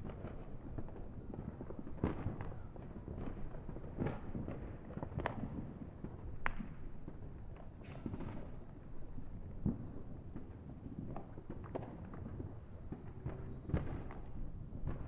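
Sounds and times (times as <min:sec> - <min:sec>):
distant fireworks popping: 0:00.0 - 0:15.0
sharp fireworks cracks: 0:00.0 - 0:15.0.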